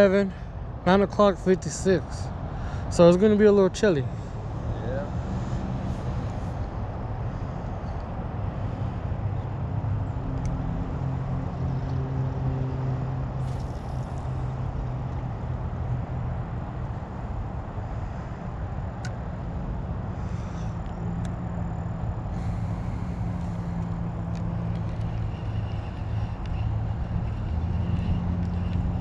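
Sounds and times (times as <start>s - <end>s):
distant road traffic rumble: 0.0s - 29.0s
vehicle engine hum: 0.0s - 29.0s.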